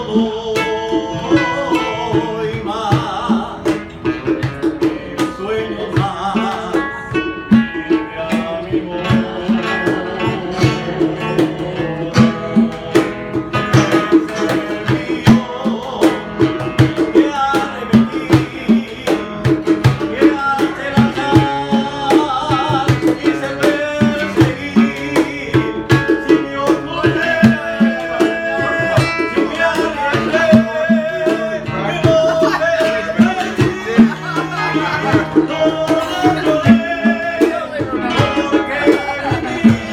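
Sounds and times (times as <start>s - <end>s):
cajon beat: 0.0s - 39.9s
classical guitars strummed: 0.0s - 39.9s.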